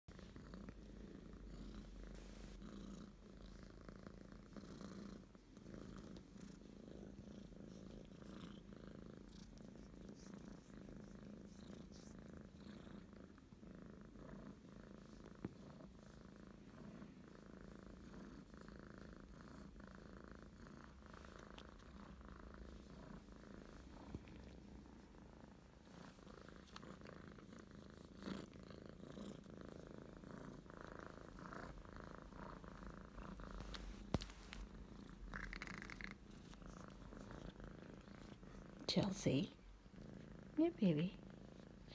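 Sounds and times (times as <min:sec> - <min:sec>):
kitten purring: 0:00.1 - 0:41.9.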